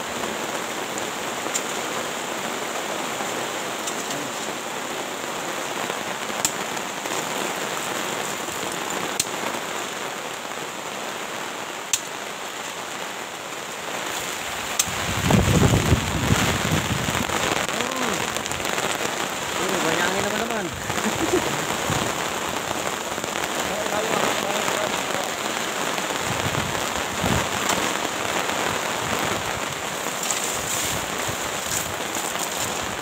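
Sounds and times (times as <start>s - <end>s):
sharp rain ticks: 0.0s - 33.0s
steady rain hiss: 0.0s - 33.0s.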